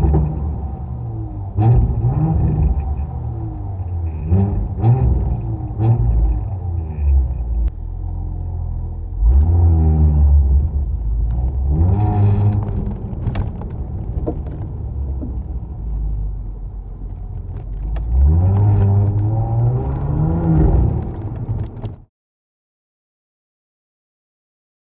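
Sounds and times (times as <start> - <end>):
car engine accelerating: 0.0 - 22.1.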